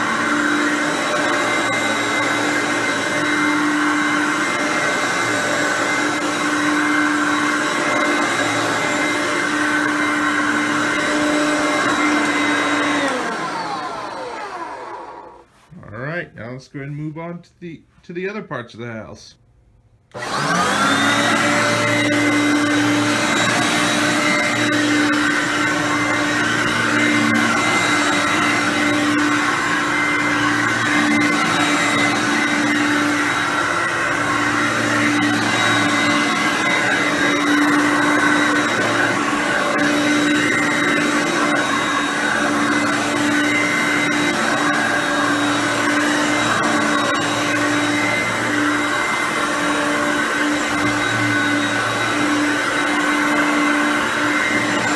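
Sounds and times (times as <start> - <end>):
vacuum cleaner motor whine: 0.0 - 15.5, 20.1 - 54.9.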